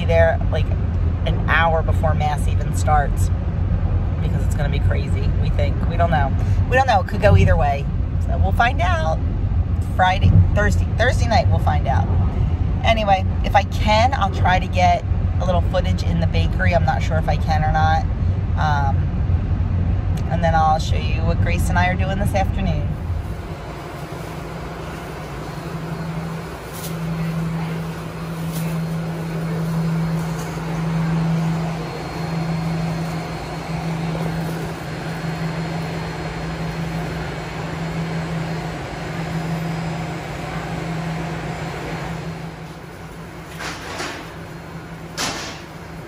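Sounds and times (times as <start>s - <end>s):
bakery machinery humming: 0.0s - 46.0s.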